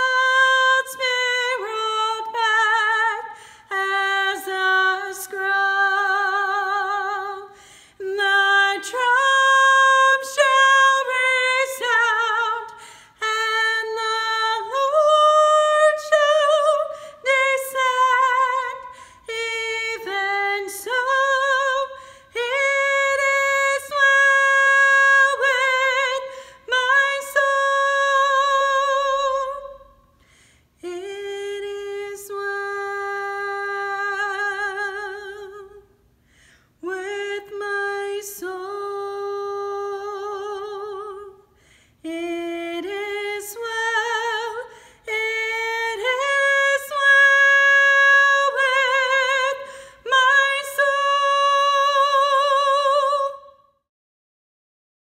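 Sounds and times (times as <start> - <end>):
woman singing unaccompanied: 0.0 - 30.0, 30.8 - 35.9, 36.8 - 53.8.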